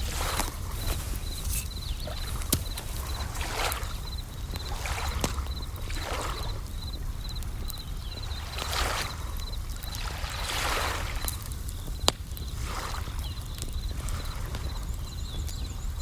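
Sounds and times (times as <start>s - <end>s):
campfire crackling with pops: 0.0s - 16.0s
crickets chirping: 0.0s - 16.0s.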